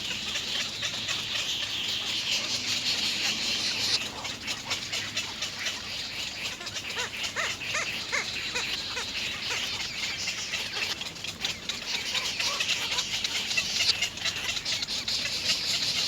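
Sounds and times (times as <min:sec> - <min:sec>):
nestlings begging calls: 0:00.0 - 0:16.0.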